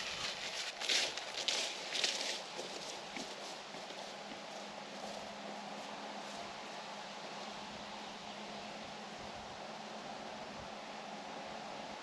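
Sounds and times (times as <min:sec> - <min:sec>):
wastewater unit humming: 0:00.0 - 0:12.0.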